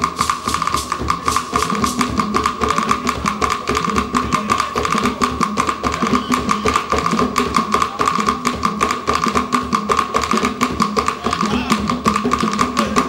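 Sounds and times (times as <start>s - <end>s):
hand drums fast rhythm: 0.0s - 13.0s.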